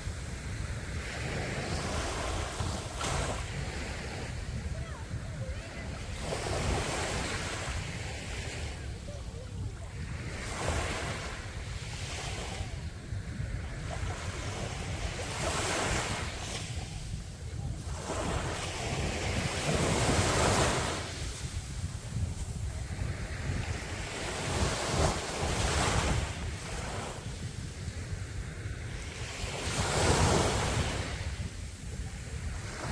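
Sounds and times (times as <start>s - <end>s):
sea waves breaking on a beach: 0.0s - 32.9s
wind rumbling on microphone: 0.0s - 32.9s.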